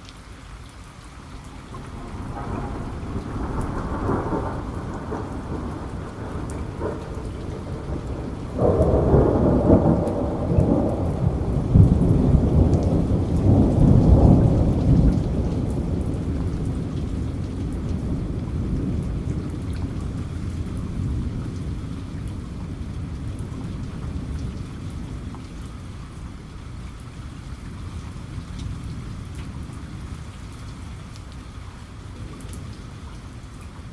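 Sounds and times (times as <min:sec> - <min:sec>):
rain falling steadily: 0:00.0 - 0:33.9
raindrop ticks: 0:00.0 - 0:33.9
low thunder rumble: 0:01.5 - 0:31.5.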